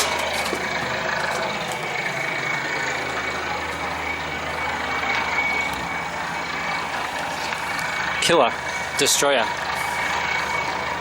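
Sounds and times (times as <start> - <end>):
drilling rig engine running: 0.0 - 11.0.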